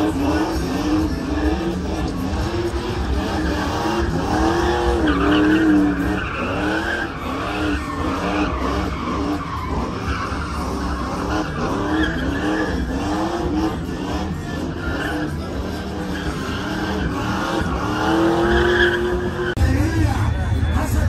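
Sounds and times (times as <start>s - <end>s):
spinning tyres hissing: 0.0s - 19.6s
engine revving: 0.0s - 19.7s.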